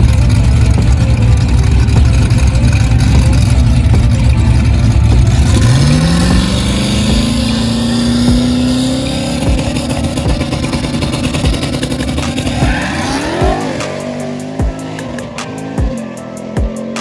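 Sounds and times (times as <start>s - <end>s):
drag car engine revving: 0.0s - 17.0s.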